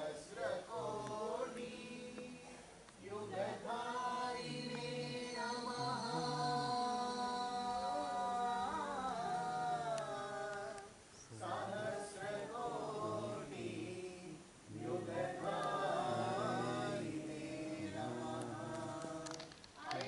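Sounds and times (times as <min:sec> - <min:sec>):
devotional chant singing: 0:00.0 - 0:20.0.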